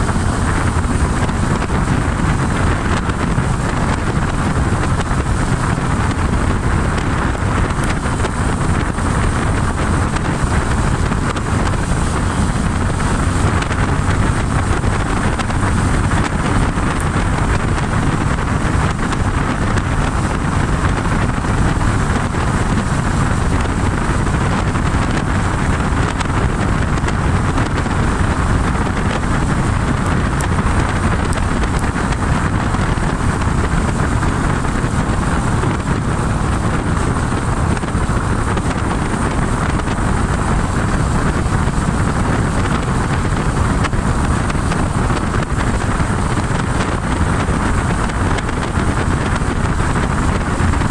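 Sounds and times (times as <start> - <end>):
motorcycle engine cruising: 0.0 - 50.9
wind rush on microphone: 0.0 - 50.9.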